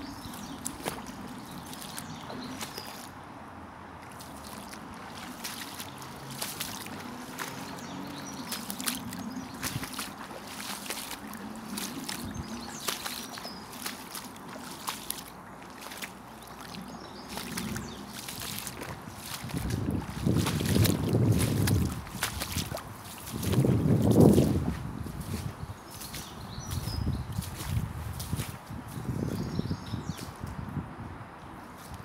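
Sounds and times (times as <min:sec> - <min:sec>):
footsteps splashing in water: 0:00.0 - 0:03.2, 0:04.0 - 0:29.4.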